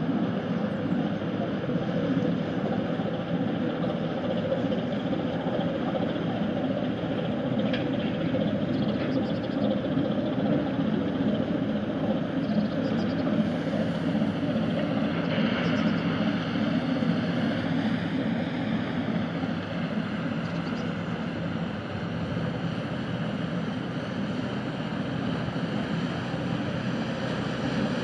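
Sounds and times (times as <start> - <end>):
boat diesel engine drone: 0.0 - 28.0.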